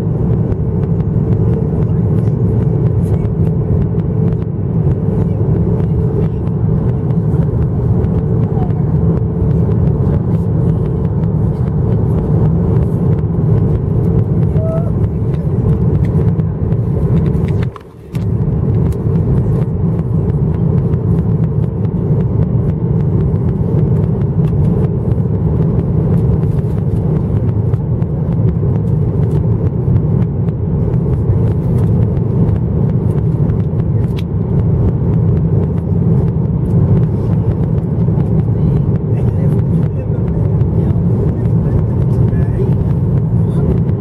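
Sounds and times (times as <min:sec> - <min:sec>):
airliner cabin low roar: 0:00.0 - 0:44.0.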